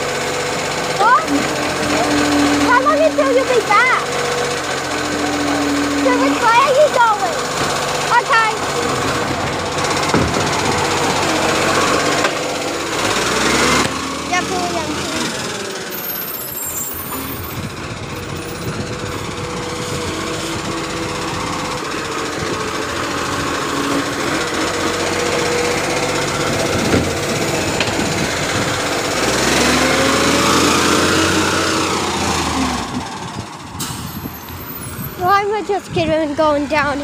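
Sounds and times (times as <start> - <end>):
garbage truck diesel engine: 0.0 - 37.0.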